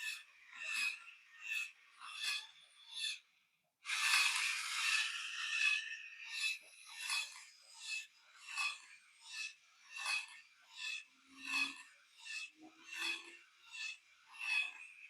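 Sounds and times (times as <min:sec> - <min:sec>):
small electric motor rasping: 0:00.0 - 0:03.2, 0:03.8 - 0:15.0.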